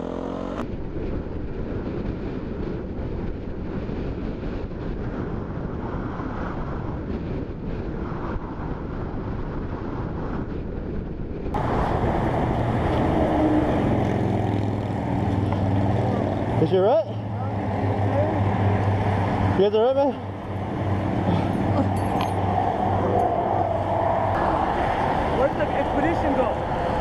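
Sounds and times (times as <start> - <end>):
moving vehicle running noise: 0.0 - 27.0
wind rush on microphone: 0.6 - 27.0.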